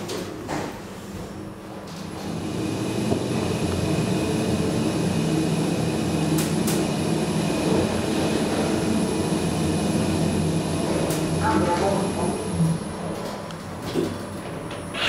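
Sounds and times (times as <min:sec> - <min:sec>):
elevator pump motor humming: 0:02.0 - 0:15.0.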